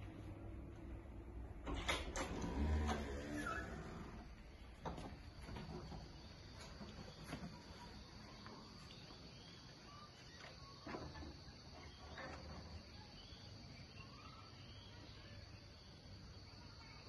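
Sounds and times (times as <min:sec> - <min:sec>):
distant bird chirps: 0:03.2 - 0:17.0.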